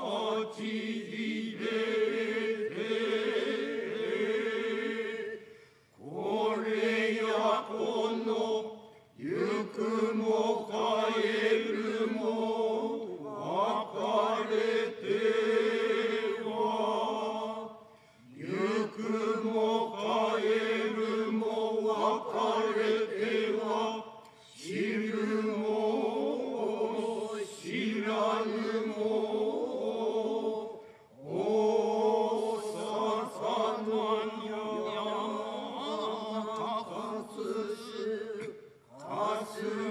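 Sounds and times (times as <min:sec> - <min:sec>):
group chanting in unison: 0:00.0 - 0:39.9.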